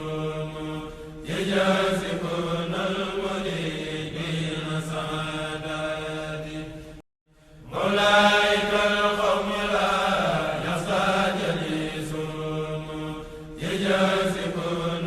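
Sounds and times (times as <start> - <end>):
voices chanting in unison: 0.0 - 15.0.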